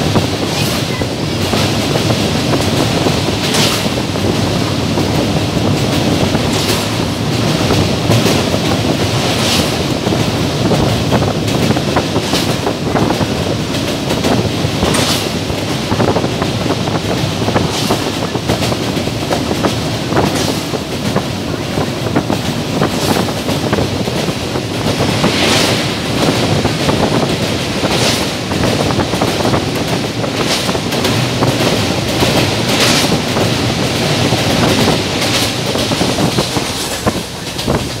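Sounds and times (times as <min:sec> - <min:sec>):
train wheels rumbling on rails: 0:00.0 - 0:38.0
wind rush: 0:00.0 - 0:38.0.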